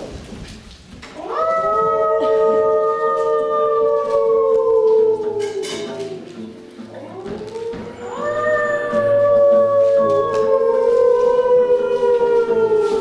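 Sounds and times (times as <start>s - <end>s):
wolf howling: 1.2s - 6.4s, 7.0s - 13.0s.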